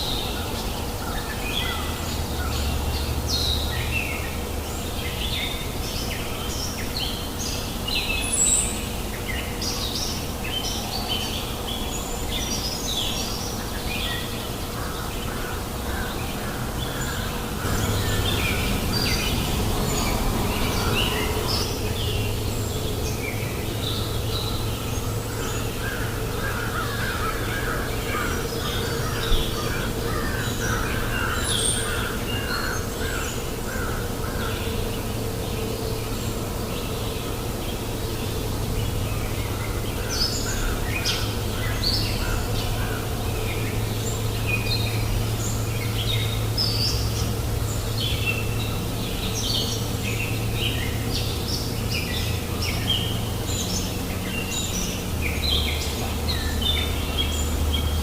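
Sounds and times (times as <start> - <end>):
birds chirping and calling: 0.0 - 58.0
river water flowing: 0.0 - 58.0.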